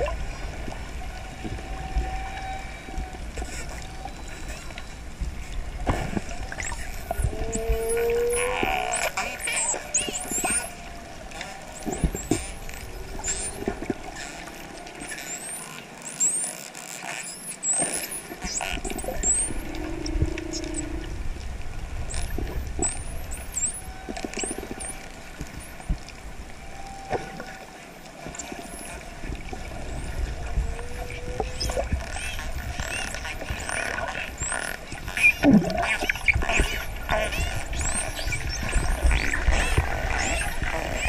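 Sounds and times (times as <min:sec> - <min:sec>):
low water rumble: 0:00.0 - 0:41.0
dolphins whistling underwater: 0:01.1 - 0:05.0, 0:06.2 - 0:21.1, 0:22.1 - 0:26.0, 0:26.6 - 0:41.0.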